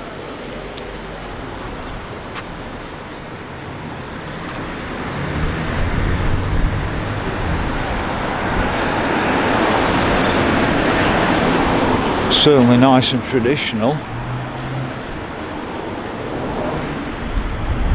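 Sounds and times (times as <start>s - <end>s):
cars driving along street: 0.0s - 17.9s.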